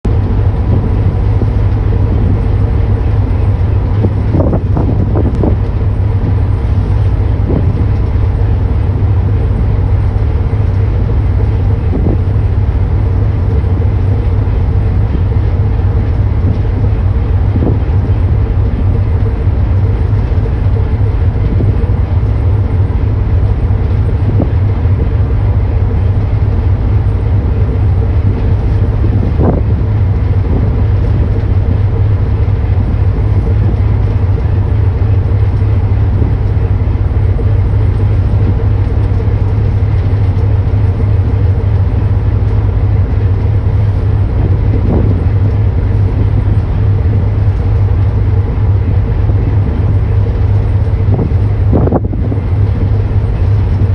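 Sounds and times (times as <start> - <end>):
boat engine drone: 0.0 - 53.9.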